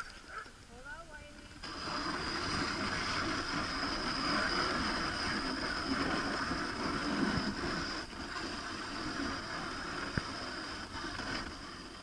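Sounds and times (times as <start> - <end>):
sled runners rushing over snow: 0.3 - 12.0.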